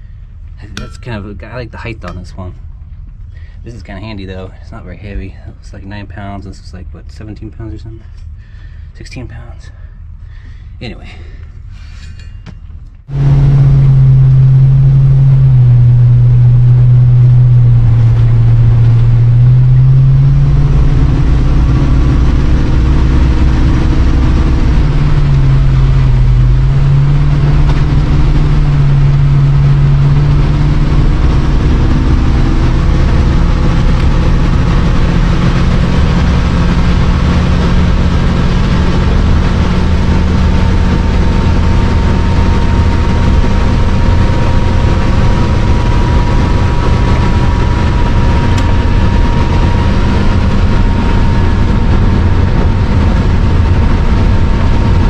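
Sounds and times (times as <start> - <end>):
motorhome engine droning: 0.0 - 55.0
road noise: 0.0 - 55.0.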